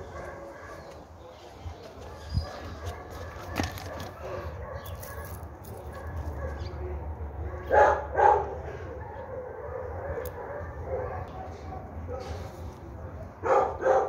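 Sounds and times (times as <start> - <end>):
dog barking: 0.0 - 6.8, 7.4 - 12.5, 13.4 - 14.0.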